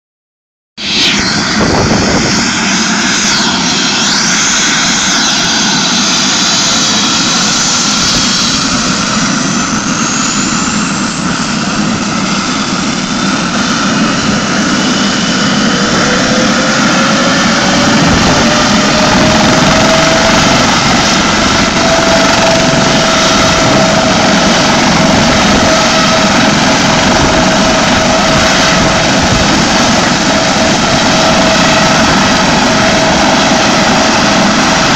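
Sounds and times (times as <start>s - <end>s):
helicopter turbine engines running: 0.8s - 34.9s.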